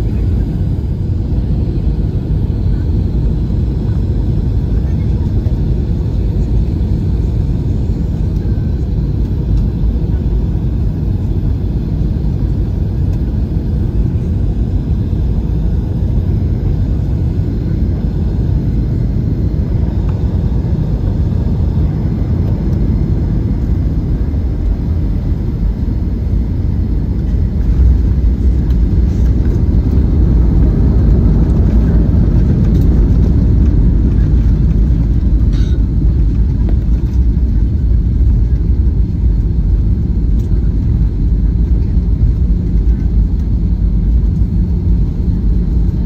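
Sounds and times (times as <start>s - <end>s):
aircraft cabin engine rumble: 0.0s - 46.0s
aircraft touching down: 8.3s - 46.0s.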